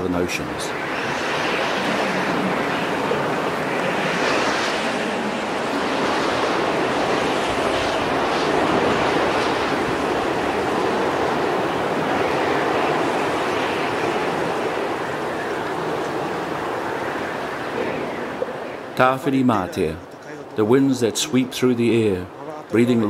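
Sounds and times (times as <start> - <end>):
ocean waves rushing: 0.0 - 23.0.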